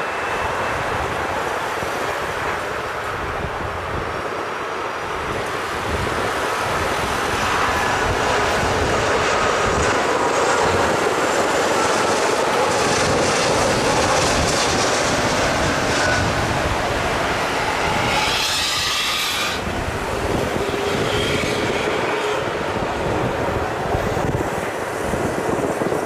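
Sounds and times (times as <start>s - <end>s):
airliner jet engines on approach: 0.0s - 26.0s.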